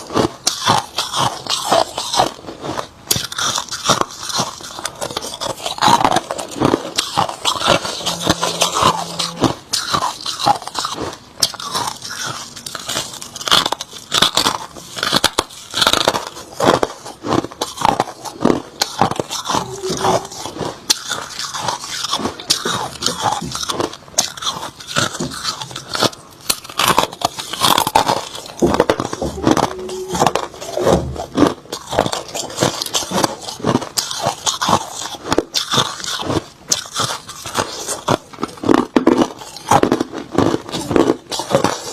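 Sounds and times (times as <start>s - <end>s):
person chewing crushed ice: 0.0s - 41.9s.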